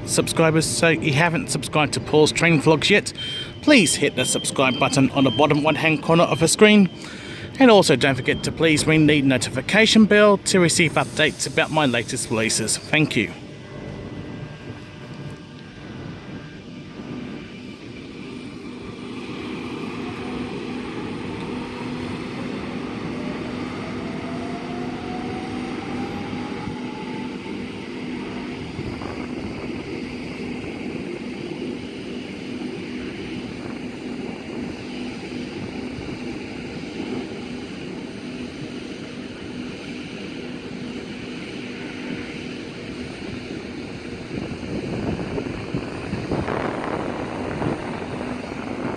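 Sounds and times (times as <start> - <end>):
electric train passing: 0.0 - 48.9
traction motor whine: 0.0 - 48.9.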